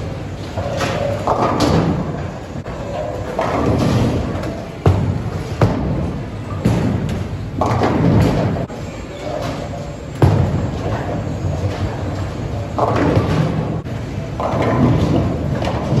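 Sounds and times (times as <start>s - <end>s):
bowling balls thudding and rolling: 0.0s - 16.0s.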